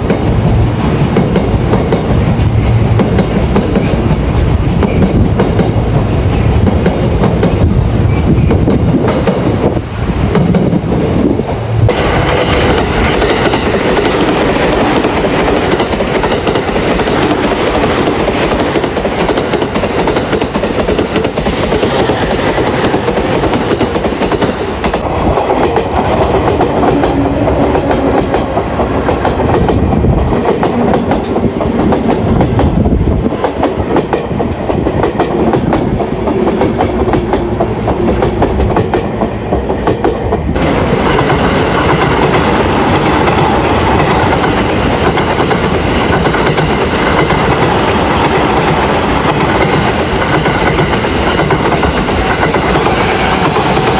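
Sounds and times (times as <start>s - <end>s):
train wheels clattering over rail joints: 0.0s - 53.9s.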